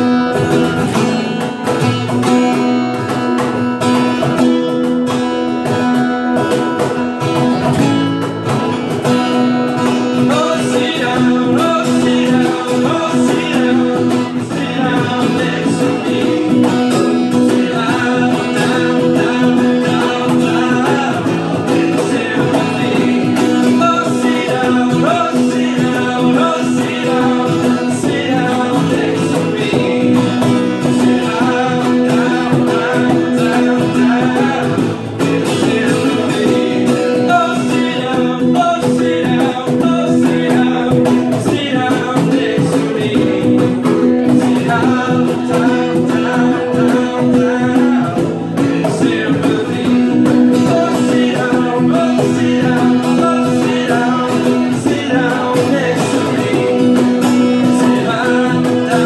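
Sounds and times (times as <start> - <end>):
acoustic guitars strumming: 0.0 - 59.0
man singing: 0.0 - 59.0.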